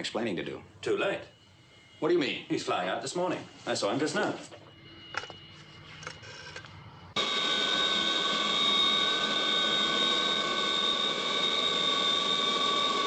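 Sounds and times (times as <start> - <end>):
jet engines whining: 0.8 - 13.0.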